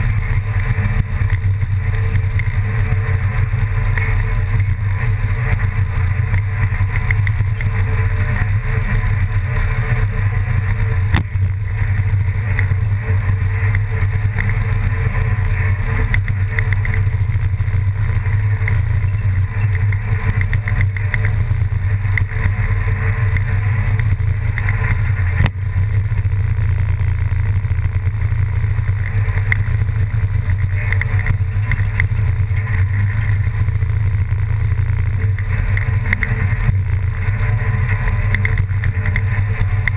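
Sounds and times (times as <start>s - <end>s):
loud low engine drone: 0.0s - 39.9s
noisy hiss: 0.0s - 39.9s.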